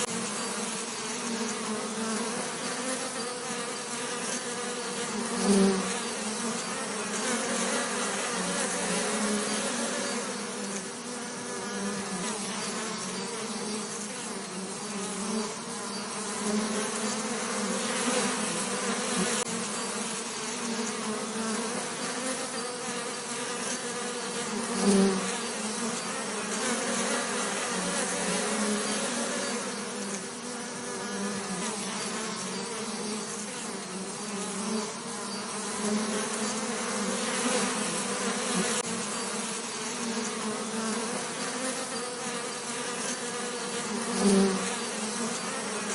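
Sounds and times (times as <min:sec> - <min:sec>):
bees buzzing: 0:00.0 - 0:45.9.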